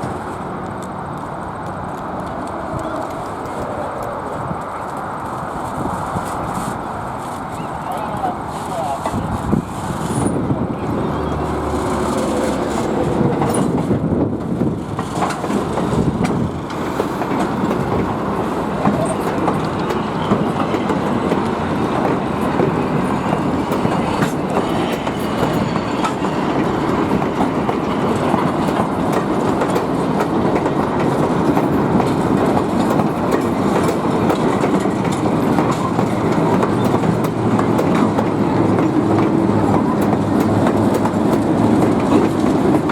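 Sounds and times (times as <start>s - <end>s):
train wheels clattering: 8.4s - 42.9s.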